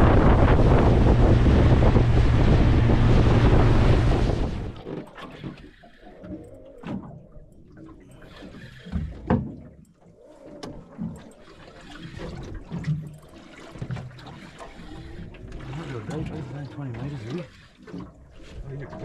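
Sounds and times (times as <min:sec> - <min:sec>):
water slapping boat hull: 0:00.0 - 0:19.0.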